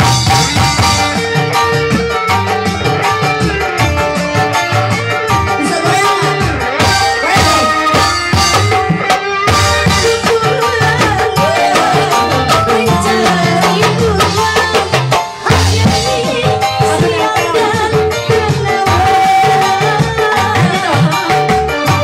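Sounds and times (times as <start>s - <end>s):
hand drums beat: 0.0s - 22.0s
live band music: 0.0s - 22.0s.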